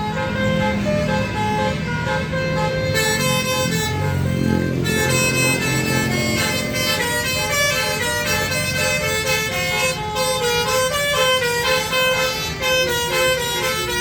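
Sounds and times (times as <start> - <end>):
bus engine running: 0.0 - 14.0
multi-tone air horn melody: 0.0 - 14.0.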